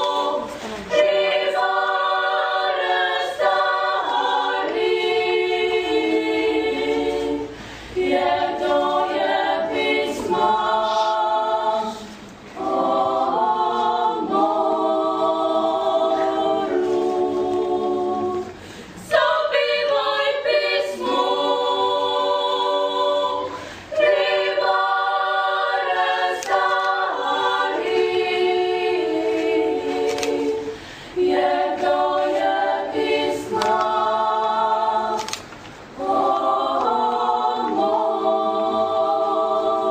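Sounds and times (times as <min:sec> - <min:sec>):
group singing a cappella harmony: 0:00.0 - 0:39.9.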